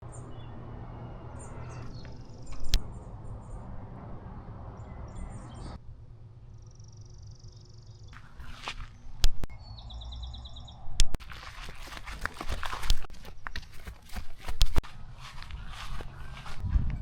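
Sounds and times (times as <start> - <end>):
birds chirping: 0.0 - 5.8, 6.4 - 16.6.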